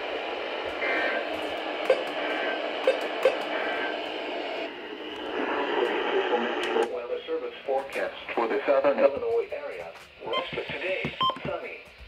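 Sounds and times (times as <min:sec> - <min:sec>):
radio static hiss: 0:00.0 - 0:12.0
static crackles: 0:00.0 - 0:12.0.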